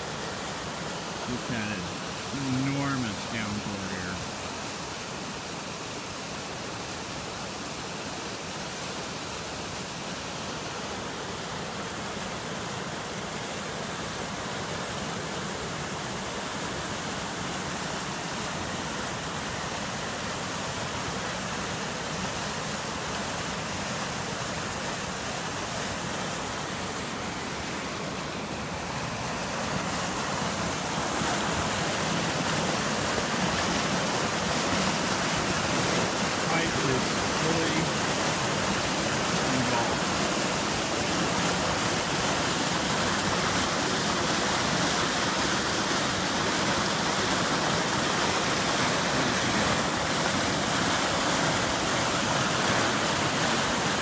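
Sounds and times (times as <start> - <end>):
flooded creek rushing: 0.0 - 54.0.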